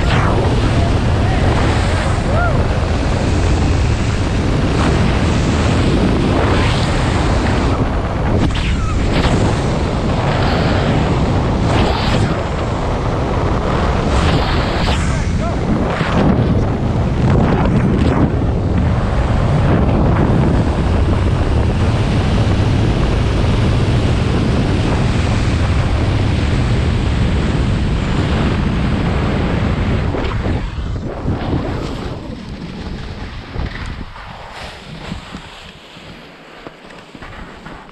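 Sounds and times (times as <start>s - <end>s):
wind rushing over microphone: 0.0s - 37.9s.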